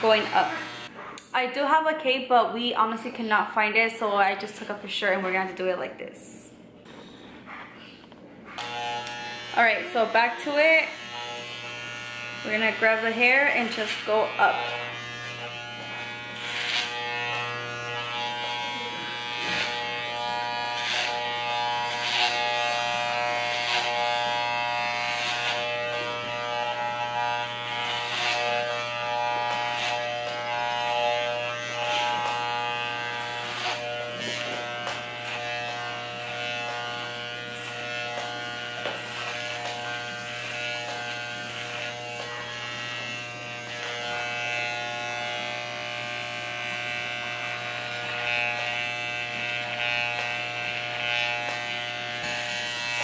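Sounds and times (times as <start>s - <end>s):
hair clippers buzzing: 0.0s - 0.9s, 8.5s - 53.0s.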